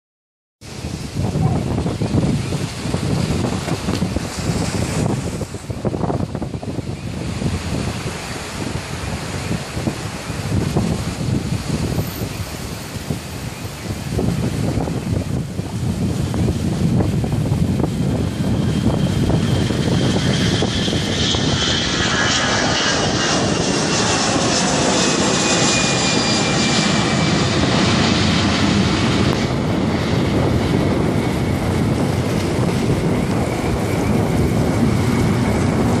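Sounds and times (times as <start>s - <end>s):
jet engines roaring: 0.6s - 36.0s.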